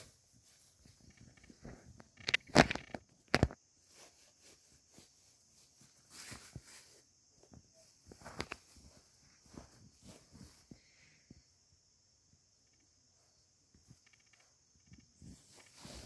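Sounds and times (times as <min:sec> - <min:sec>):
rustling: 0:00.0 - 0:11.6, 0:12.3 - 0:16.0.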